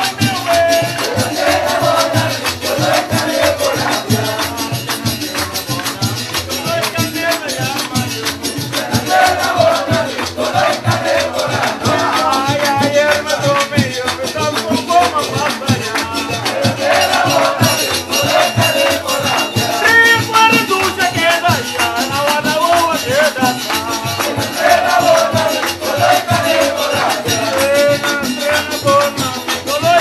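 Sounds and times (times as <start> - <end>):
guitars strummed: 0.0 - 30.0
hand drum: 0.0 - 30.0
man singing: 0.0 - 30.0
shaker rhythm: 0.0 - 30.0.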